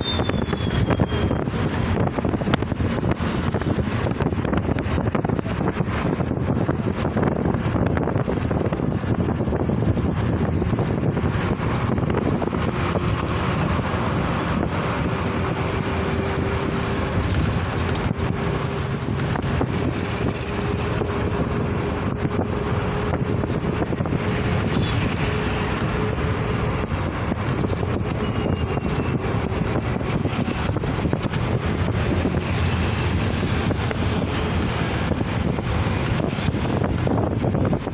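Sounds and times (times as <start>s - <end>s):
vehicle road noise: 0.0s - 37.9s
wind rushing over microphone: 0.0s - 37.9s.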